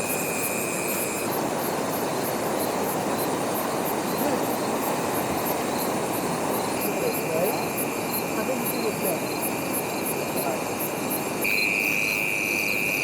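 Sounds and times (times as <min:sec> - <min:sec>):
insects chirping: 0:00.0 - 0:13.0
stream water rushing: 0:00.0 - 0:13.0.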